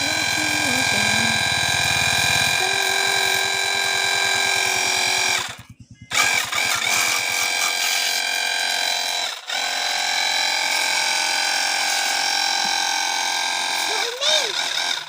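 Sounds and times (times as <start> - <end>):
pressure washer motor whine: 0.0 - 15.0.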